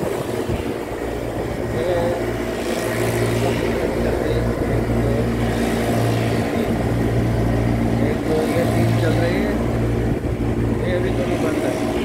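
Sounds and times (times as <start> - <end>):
compressors humming: 0.0 - 12.0.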